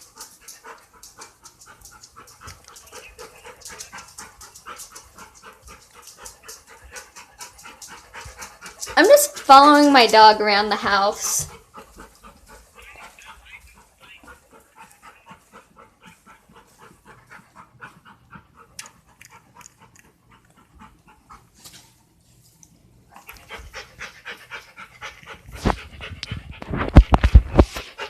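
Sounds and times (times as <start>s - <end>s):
dog panting rapidly: 0.0s - 22.2s, 23.2s - 28.0s.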